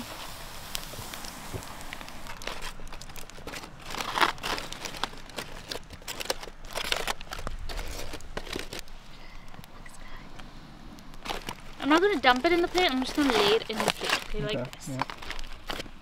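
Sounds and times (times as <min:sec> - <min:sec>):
foil packet crinkling: 0:00.0 - 0:09.7, 0:11.0 - 0:16.0.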